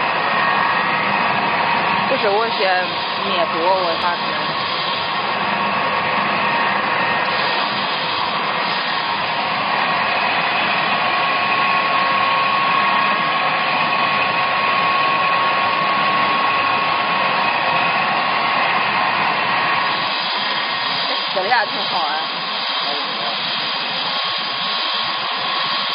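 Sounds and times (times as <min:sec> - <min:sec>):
machine motor whirring: 0:00.0 - 0:25.9
thin even whine: 0:00.0 - 0:25.9.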